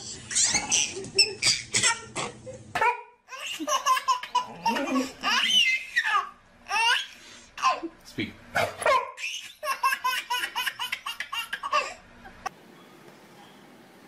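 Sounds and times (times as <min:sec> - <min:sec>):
baby laughing: 0:00.1 - 0:08.0, 0:08.8 - 0:12.4.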